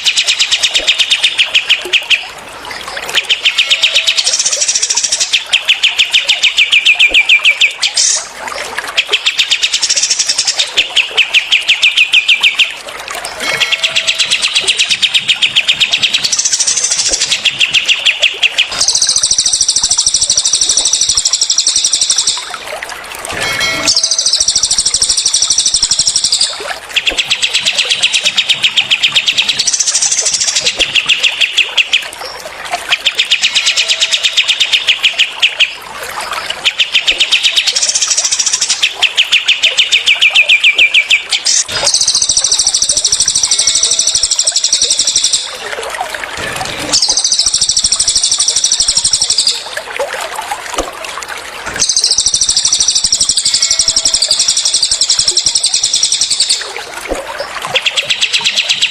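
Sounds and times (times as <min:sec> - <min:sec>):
birdsong with rapid trills: 0:00.0 - 0:22.6, 0:23.4 - 0:45.6, 0:46.3 - 0:49.7, 0:51.8 - 0:58.9.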